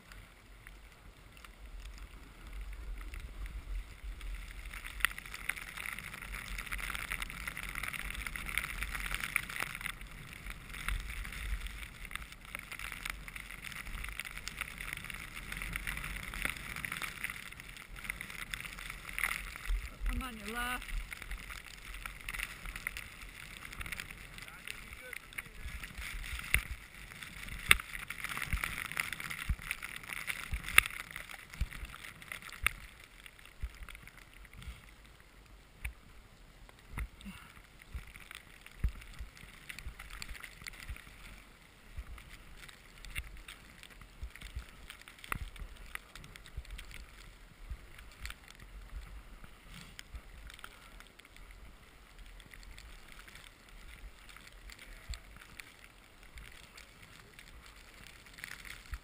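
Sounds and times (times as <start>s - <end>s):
skis hissing through powder snow: 0.1s - 59.0s.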